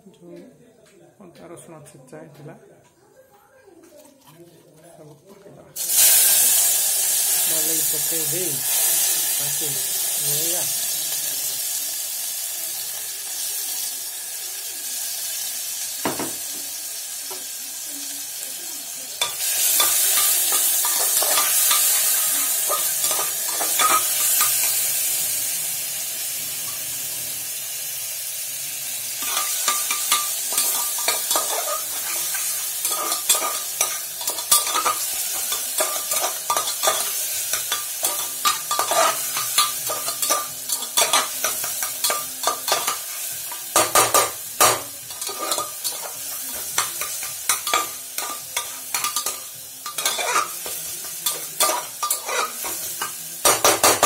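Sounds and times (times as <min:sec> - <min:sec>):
food sizzling in a pot: 0:05.8 - 0:54.0.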